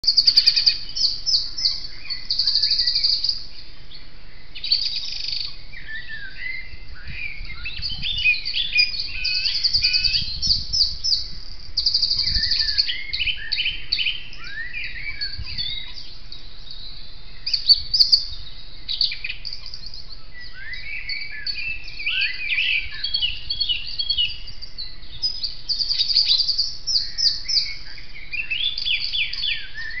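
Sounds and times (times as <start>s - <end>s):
high songbird trills: 0.0s - 30.0s.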